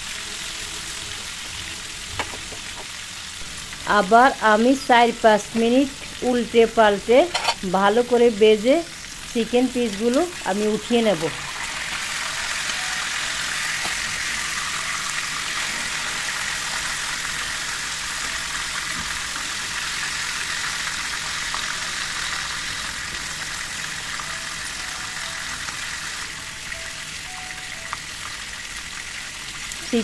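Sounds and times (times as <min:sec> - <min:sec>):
chicken frying in hot oil: 0:00.0 - 0:30.0.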